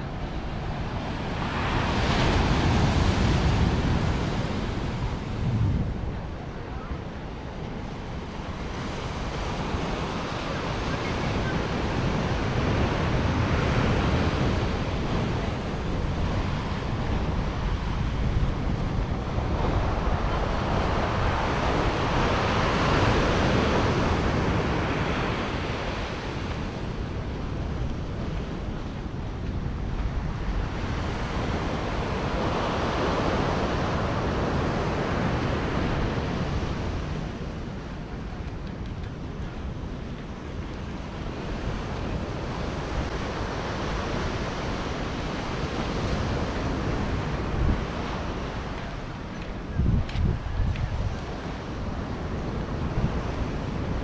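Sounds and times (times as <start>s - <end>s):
ocean surf breaking: 0.0s - 54.0s
wind rumbling on microphone: 0.0s - 54.0s.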